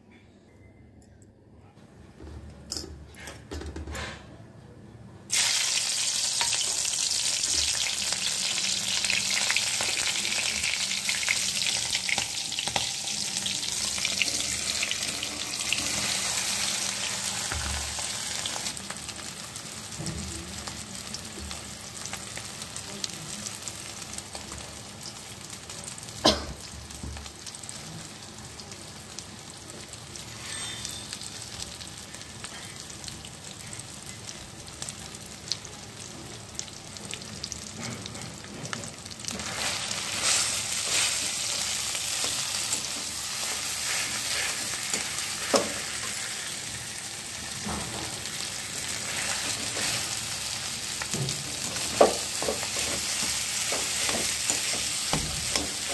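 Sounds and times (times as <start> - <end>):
oil sizzling in a wok: 5.3 - 55.9.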